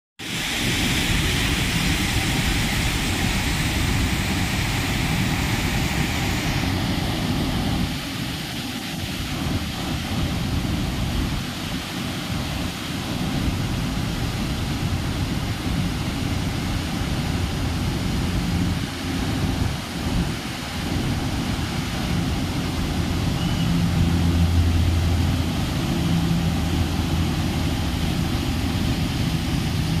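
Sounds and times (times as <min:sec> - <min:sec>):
waterfall and rapids roaring: 0:00.2 - 0:30.0.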